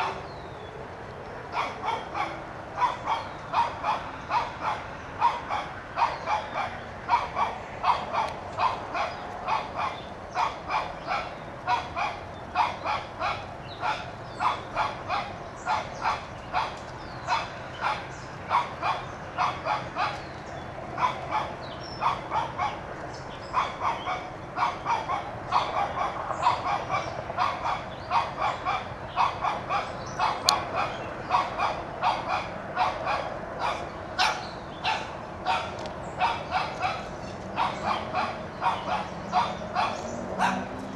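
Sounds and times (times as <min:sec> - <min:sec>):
small dog yapping: 0:01.5 - 0:20.2, 0:21.0 - 0:22.8, 0:23.5 - 0:40.9.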